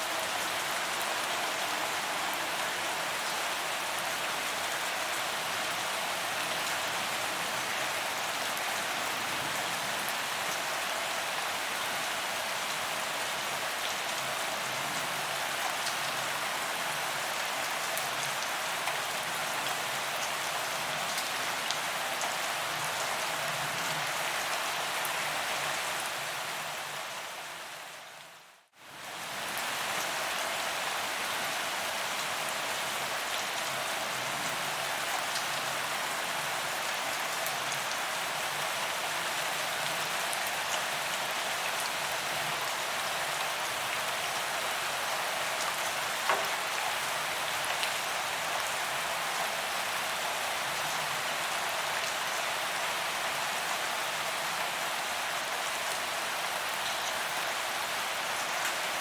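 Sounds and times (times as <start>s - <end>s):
heavy rain on pavement: 0.0s - 59.0s.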